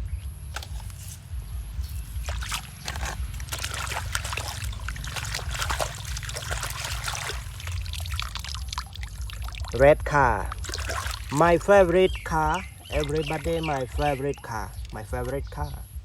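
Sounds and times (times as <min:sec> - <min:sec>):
steady low hum: 0:00.0 - 0:16.0
water trickling and splashing: 0:00.5 - 0:16.0.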